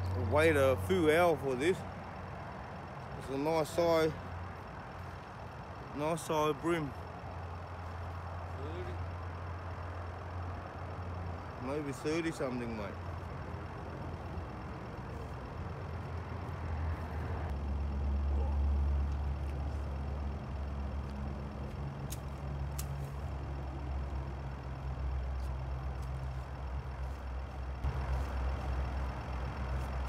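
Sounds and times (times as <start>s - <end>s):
low engine rumble: 0.0s - 30.0s.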